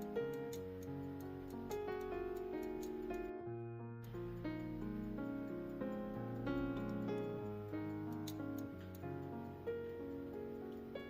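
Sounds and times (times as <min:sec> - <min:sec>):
sustained instrumental music: 0:00.0 - 0:11.0.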